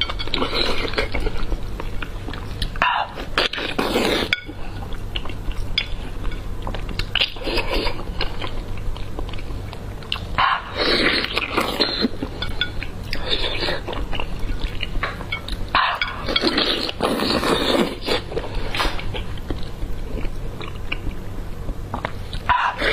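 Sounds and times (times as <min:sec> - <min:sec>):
wet chewing: 0:00.0 - 0:22.9.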